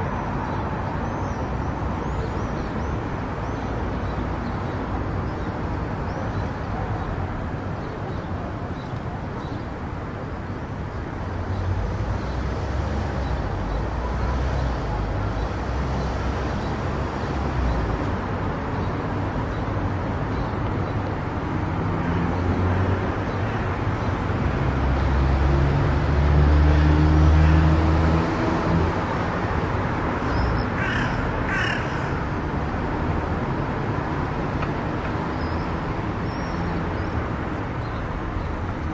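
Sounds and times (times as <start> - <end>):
car road and tyre noise: 0.0 - 38.9.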